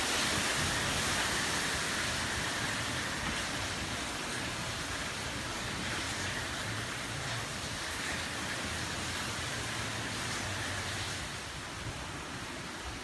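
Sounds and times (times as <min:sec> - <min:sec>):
hurricane wind and rain rushing: 0:00.0 - 0:13.0.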